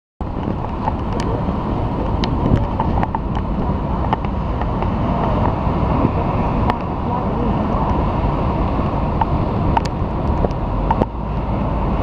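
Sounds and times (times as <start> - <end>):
heavy surf breaking: 0.2 - 12.0
storm wind buffeting microphone: 0.2 - 12.0.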